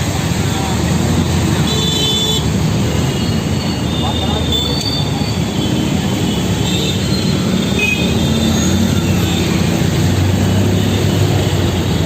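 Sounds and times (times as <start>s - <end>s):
heavy road traffic rumble: 0.0s - 12.0s.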